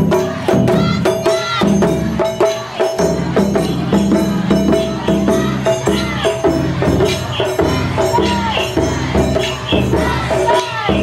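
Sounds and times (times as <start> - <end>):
metallic and wooden percussion: 0.0 - 11.0.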